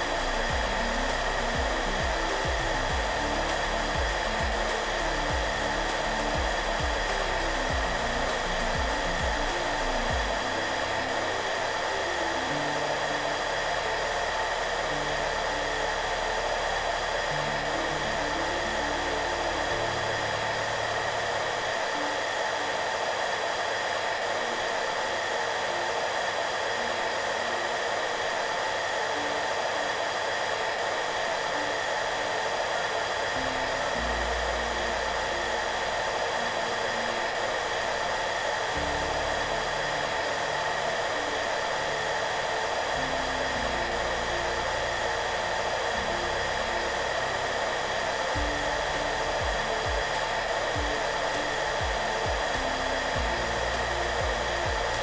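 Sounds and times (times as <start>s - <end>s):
hair dryer blowing: 0.0s - 55.0s
soft background music: 0.0s - 55.0s.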